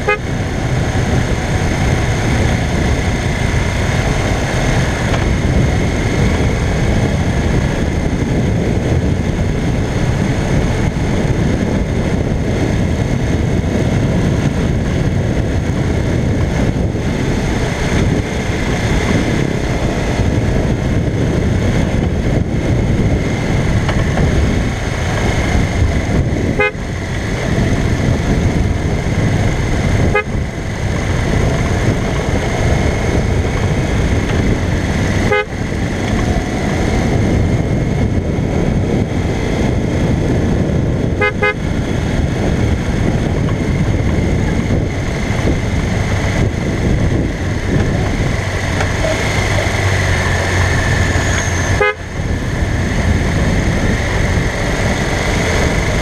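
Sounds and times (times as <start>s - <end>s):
heavy wind noise: 0.0s - 56.0s
motorcycle engine running: 0.0s - 56.0s
road noise: 0.0s - 56.0s.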